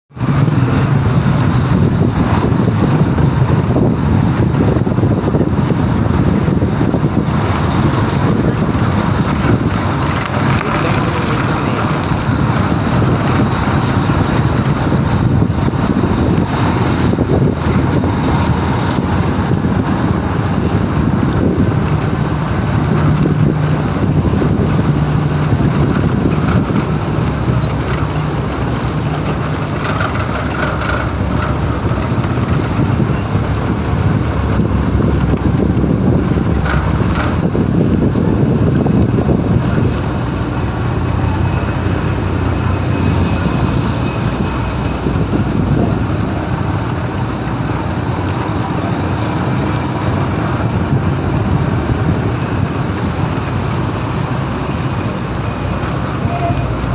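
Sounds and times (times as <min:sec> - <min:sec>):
road noise: 0:00.1 - 0:56.9
truck engines humming: 0:00.1 - 0:56.9.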